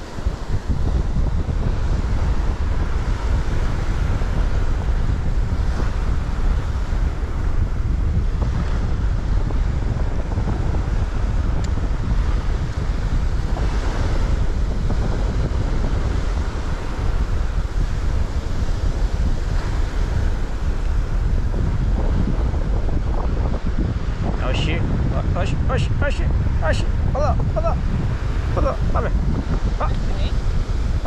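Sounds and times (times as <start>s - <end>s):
small waves breaking on shore: 0.0s - 31.0s
wind buffeting microphone: 0.0s - 31.0s.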